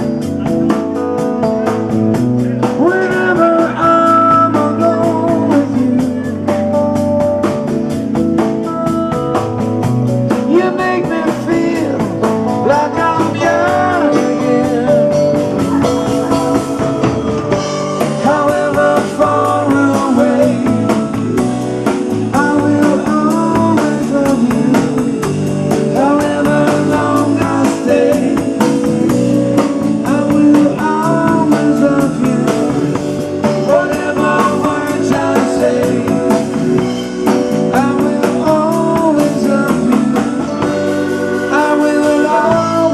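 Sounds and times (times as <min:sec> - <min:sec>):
drum kit beat: 0:00.0 - 0:42.9
guitar: 0:00.0 - 0:42.9
person singing: 0:02.4 - 0:06.9, 0:10.3 - 0:42.9.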